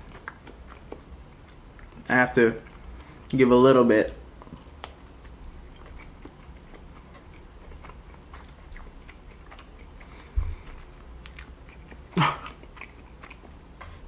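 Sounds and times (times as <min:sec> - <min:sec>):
person chewing with mouth smacks: 0:00.0 - 0:03.4, 0:04.2 - 0:14.0.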